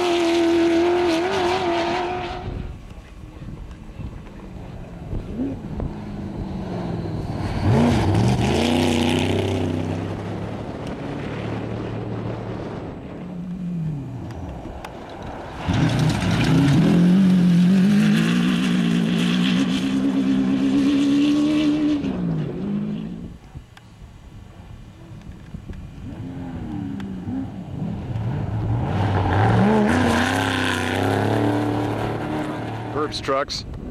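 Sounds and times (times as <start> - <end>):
off-road vehicle engines revving by: 0.0 - 23.4, 25.9 - 33.6.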